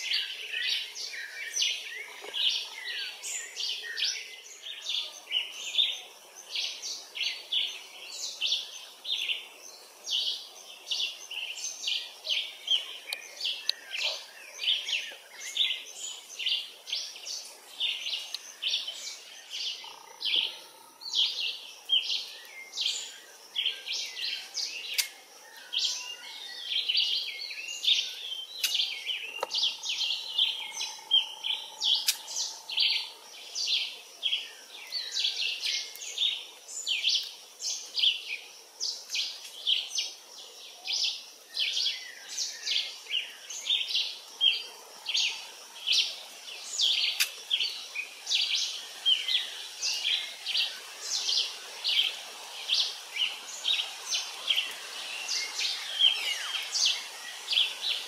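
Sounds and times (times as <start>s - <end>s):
chorus of birds chirping: 0.0s - 58.0s.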